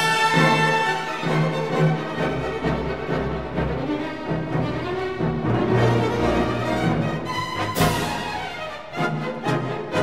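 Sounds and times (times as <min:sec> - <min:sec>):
orchestral music with bowed strings: 0:00.0 - 0:10.0.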